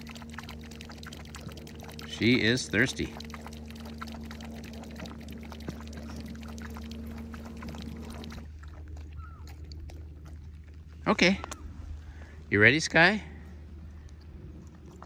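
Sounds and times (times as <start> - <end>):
puppy lapping water: 0.0 - 12.4, 13.3 - 15.0.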